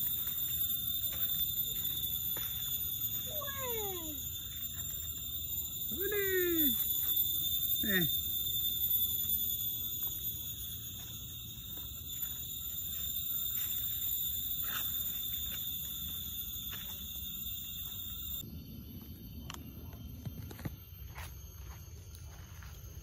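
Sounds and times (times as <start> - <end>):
footsteps on dirt trail: 0.0 - 5.9, 6.6 - 18.4, 20.3 - 23.0
insects droning: 0.0 - 23.0.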